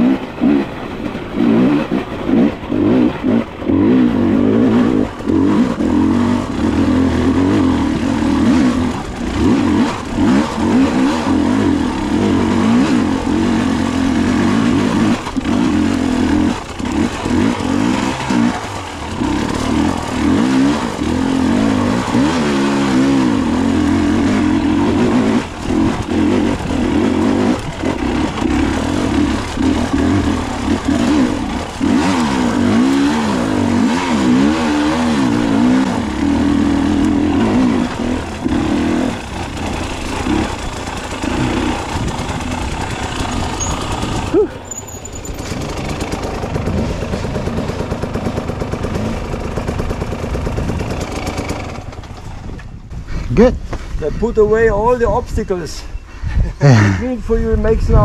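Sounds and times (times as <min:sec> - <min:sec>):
dirt bike engine revving: 0:00.0 - 0:52.6.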